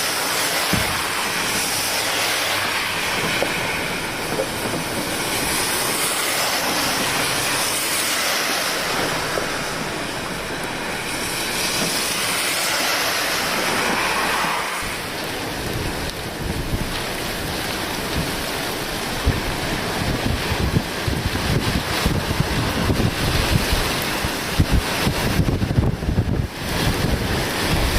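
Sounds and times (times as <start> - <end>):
river rushing in flood: 0.0 - 27.9
wind buffeting microphone: 0.6 - 27.9.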